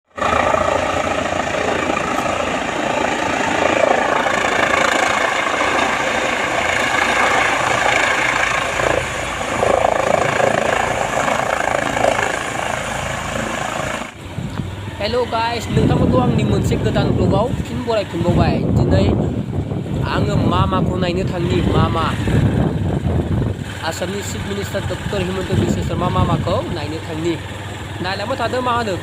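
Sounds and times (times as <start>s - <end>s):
helicopter engine and rotor: 0.1s - 29.0s.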